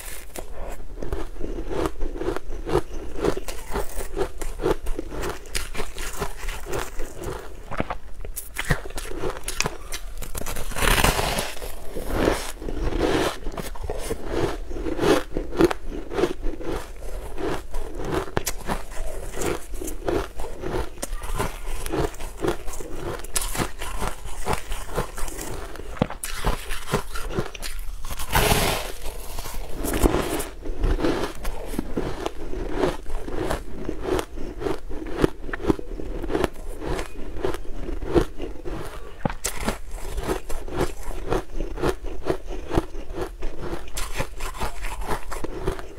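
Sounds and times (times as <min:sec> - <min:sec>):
crunching frozen ice chunks: 0:00.0 - 0:00.5, 0:01.1 - 0:45.9.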